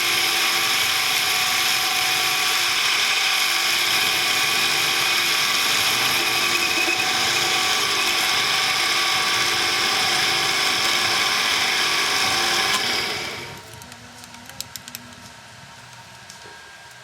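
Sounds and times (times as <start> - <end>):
metal lathe whining: 0.0 - 13.7.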